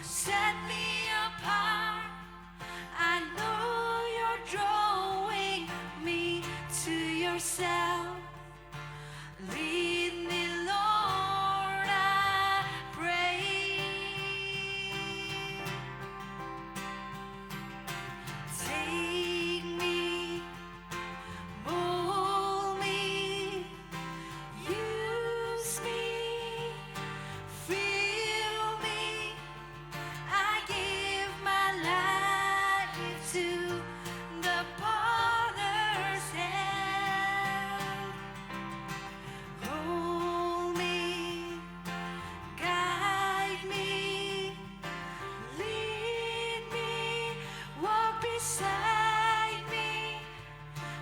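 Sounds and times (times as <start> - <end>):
person singing worship song: 0.0 - 16.2, 18.4 - 51.0.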